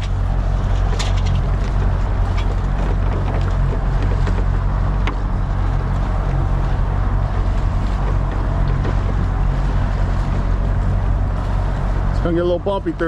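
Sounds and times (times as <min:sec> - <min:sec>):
outboard motor droning: 0:00.0 - 0:13.0
wind: 0:00.0 - 0:13.0.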